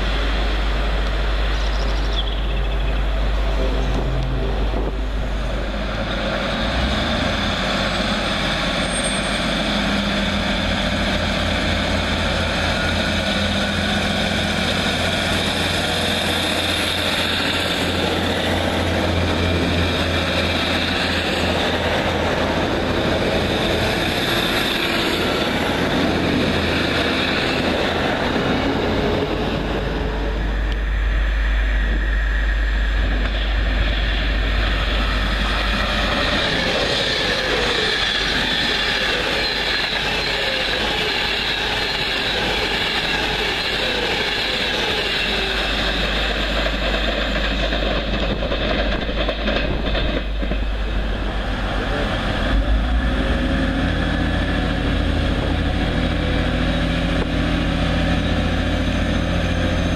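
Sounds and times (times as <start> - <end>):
passenger train running past: 0.0 - 59.9
train approaching with low rumble: 0.0 - 59.9.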